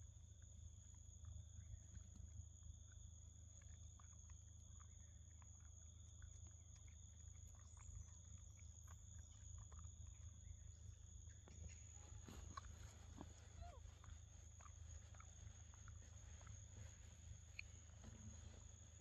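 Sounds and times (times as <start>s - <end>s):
faint ticks: 0.0s - 19.0s
steady high-pitched hum: 0.0s - 19.0s.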